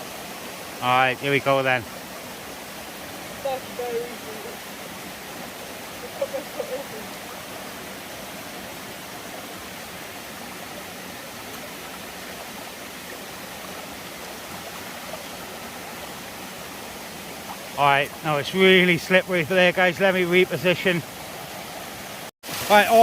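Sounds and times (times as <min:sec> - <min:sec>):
stream and waterfall rushing: 0:00.0 - 0:23.0.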